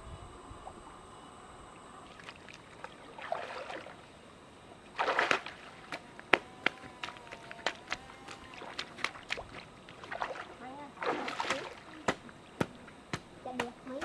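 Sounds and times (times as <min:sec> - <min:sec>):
water splashing: 0:01.8 - 0:14.0.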